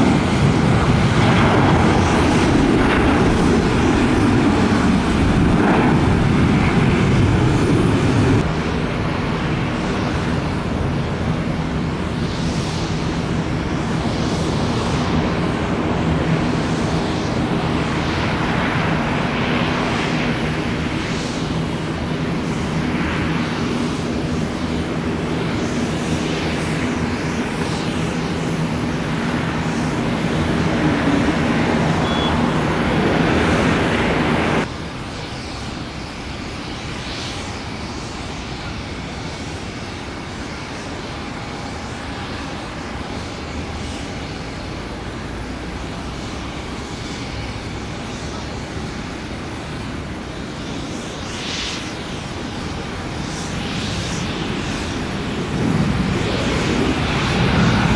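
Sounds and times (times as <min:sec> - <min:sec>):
airliner landing jet noise: 0:00.0 - 0:57.9.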